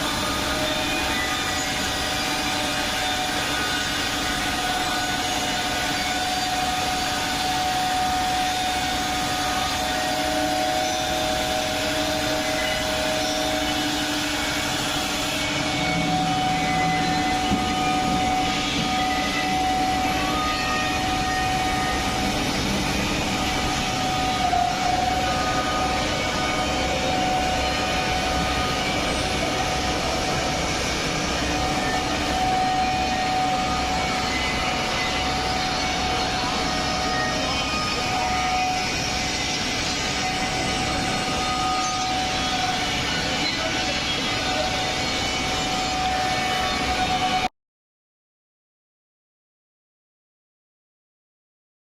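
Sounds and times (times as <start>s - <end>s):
milling machine spindle whine: 0.0s - 47.5s.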